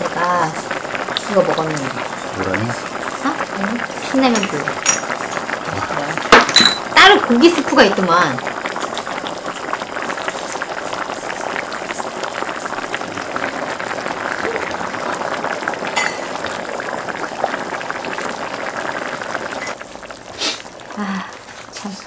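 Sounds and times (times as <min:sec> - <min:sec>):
stew bubbling in a pot: 0:00.0 - 0:22.0.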